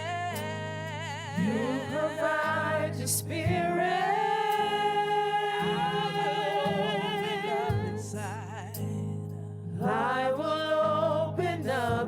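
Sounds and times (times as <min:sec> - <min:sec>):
gospel voices singing: 0:00.0 - 0:12.0.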